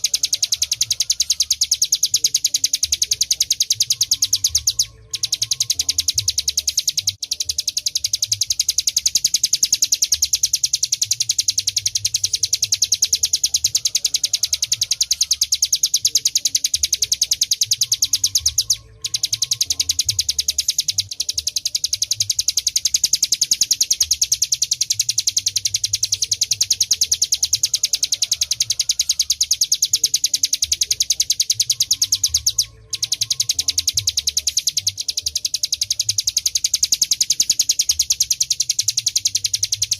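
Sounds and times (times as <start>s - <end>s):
bird singing high trill: 0.0s - 39.9s.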